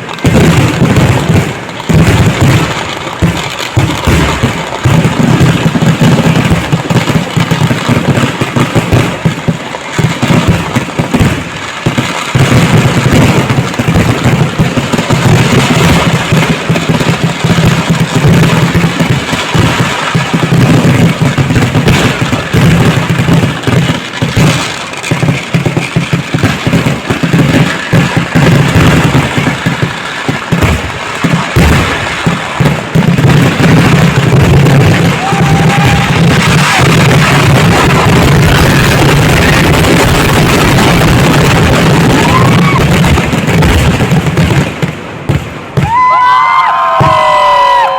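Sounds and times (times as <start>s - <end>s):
firecracker bangs: 0.0s - 47.9s.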